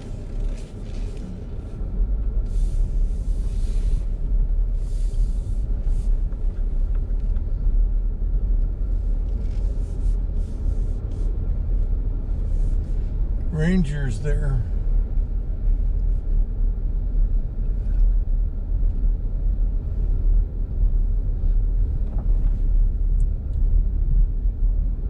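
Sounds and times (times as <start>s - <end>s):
car engine rumble from inside: 0.0s - 25.0s.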